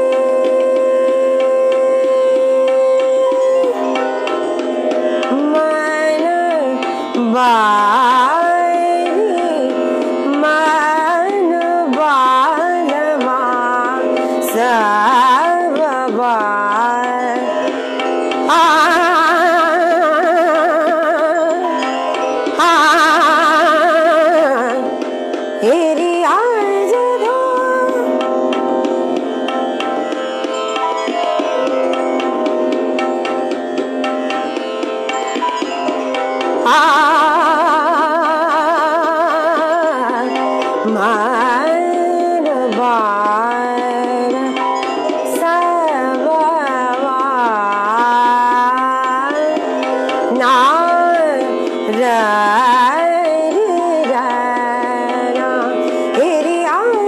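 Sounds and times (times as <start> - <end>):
woman singing classical vocals: 0.0 - 4.4, 5.1 - 28.4, 36.6 - 57.0
tabla: 0.0 - 57.0.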